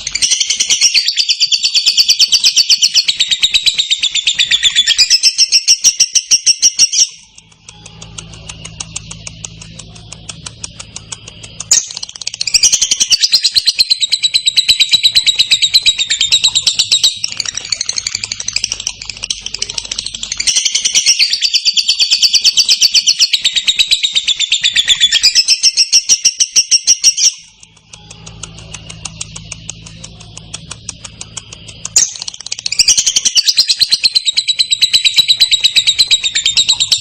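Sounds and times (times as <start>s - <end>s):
faint bird chirping: 0.0s - 37.0s
lovebird chattering trill: 0.0s - 37.0s.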